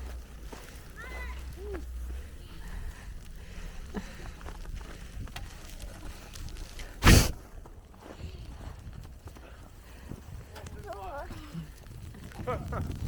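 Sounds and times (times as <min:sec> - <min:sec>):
wind rumble on microphone: 0:01.4 - 0:13.0.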